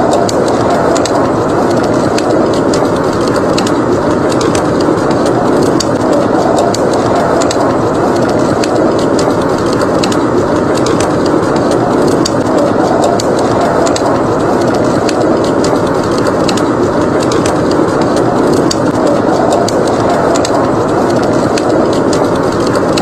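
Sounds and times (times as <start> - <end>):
blizzard wind rushing: 0.0 - 23.0
wood fire crackling: 0.0 - 23.0.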